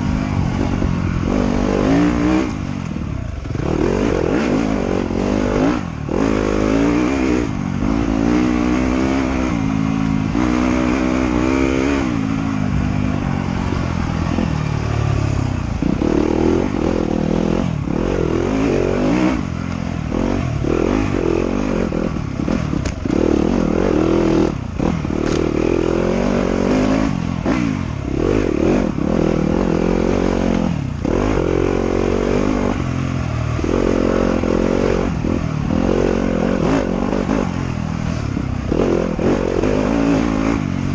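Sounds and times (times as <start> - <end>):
off-road motorcycle engine revving: 0.0 - 40.9.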